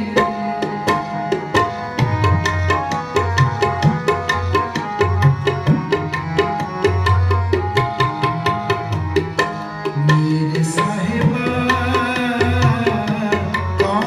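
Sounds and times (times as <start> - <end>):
tabla playing: 0.0 - 14.0.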